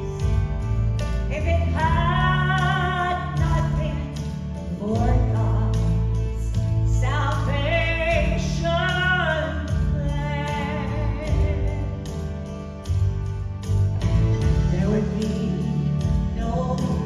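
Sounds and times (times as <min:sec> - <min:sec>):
bass and steady beat: 0:00.0 - 0:17.0.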